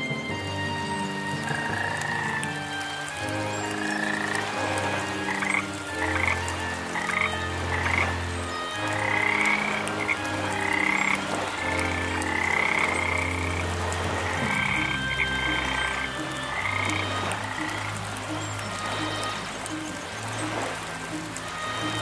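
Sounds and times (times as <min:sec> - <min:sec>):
frogs croaking: 0:00.0 - 0:22.0.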